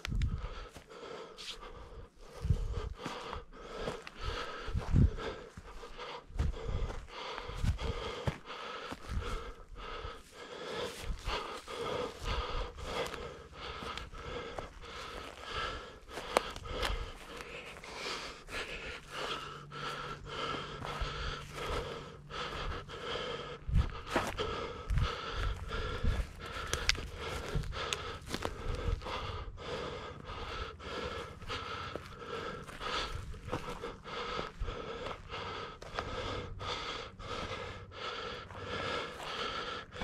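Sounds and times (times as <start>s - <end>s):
person breathing hard: 0.0s - 40.0s.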